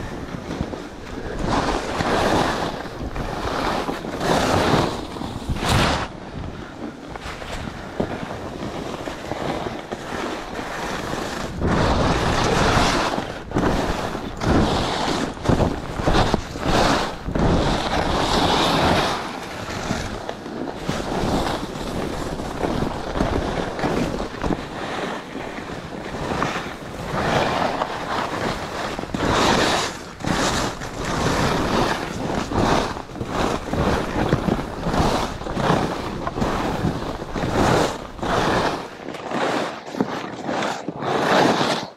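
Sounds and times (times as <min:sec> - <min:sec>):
wind buffeting microphone: 0:00.0 - 0:39.0
skis sliding through snow: 0:00.0 - 0:41.9.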